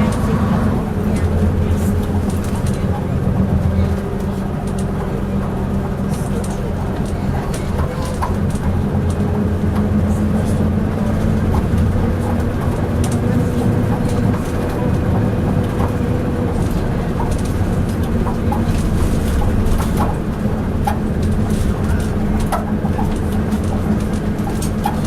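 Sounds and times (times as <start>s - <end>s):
bus body clanking and rattling: 0.0s - 25.0s
bus diesel engine running: 0.0s - 25.0s.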